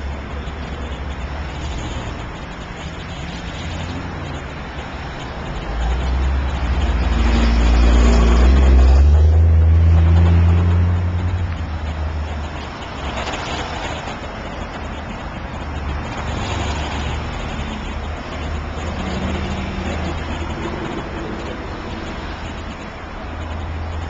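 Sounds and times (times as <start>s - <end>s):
road traffic: 0.0s - 24.0s
vehicle engine passing close: 0.0s - 24.0s.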